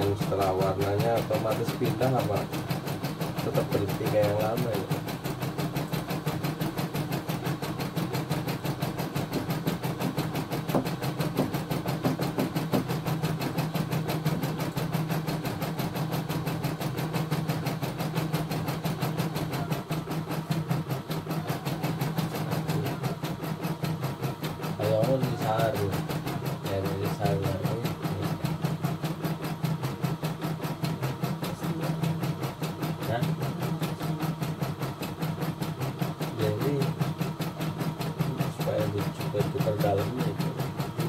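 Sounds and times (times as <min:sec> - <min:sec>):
embroidery machine stitching: 0:00.0 - 0:41.0.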